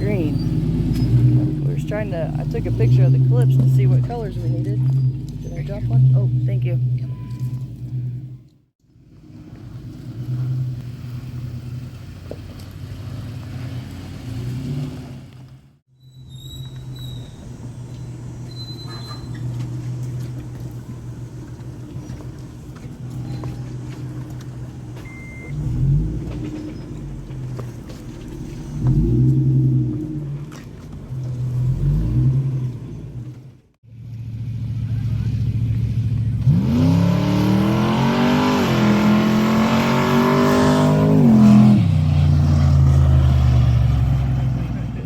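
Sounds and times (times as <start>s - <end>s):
vehicle engine revving: 0.0s - 15.8s, 16.6s - 45.0s.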